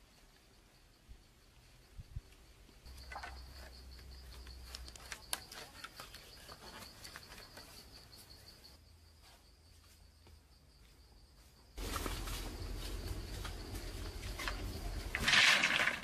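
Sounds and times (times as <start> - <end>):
high insect trill: 0.0 - 16.0
bamboo poles and cord rustling: 2.7 - 16.0.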